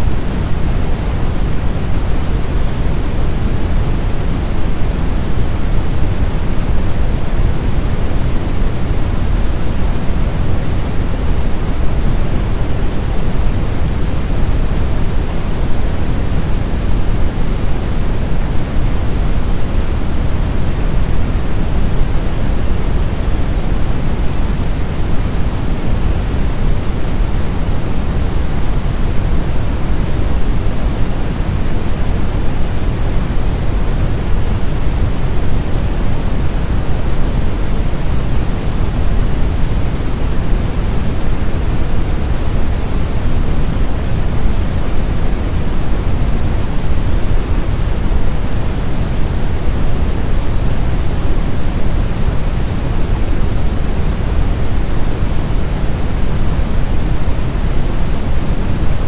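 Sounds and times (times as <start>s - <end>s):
brown noise: 0.0s - 59.0s.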